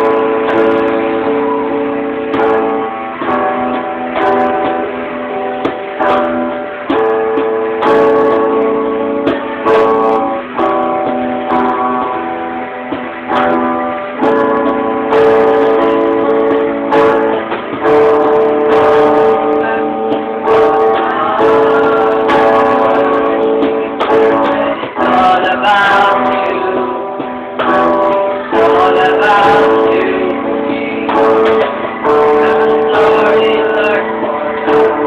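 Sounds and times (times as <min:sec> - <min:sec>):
guitars strumming chords: 0:00.0 - 0:35.0.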